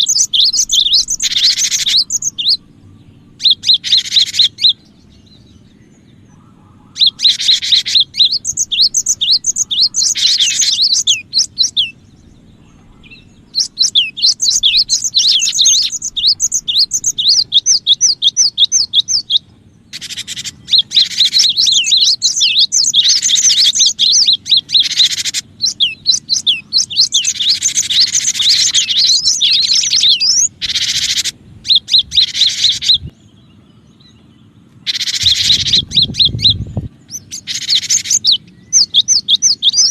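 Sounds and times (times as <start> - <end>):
tit chattering chirps: 0.0 - 5.2, 6.9 - 12.6, 13.2 - 33.1, 34.8 - 39.9
faint low hum: 0.0 - 39.9.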